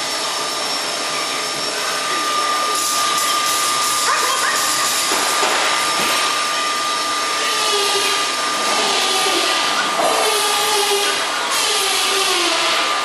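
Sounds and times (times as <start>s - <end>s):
high-pitched machine whine: 0.0s - 13.0s
machinery rushing noise: 0.0s - 13.0s.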